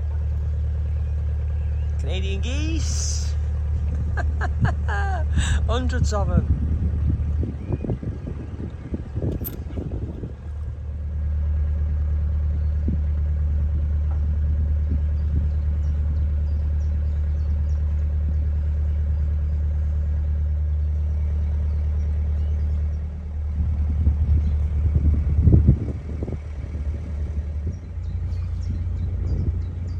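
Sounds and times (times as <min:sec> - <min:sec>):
boat engine humming: 0:00.0 - 0:29.9
low buffeting: 0:00.0 - 0:29.9.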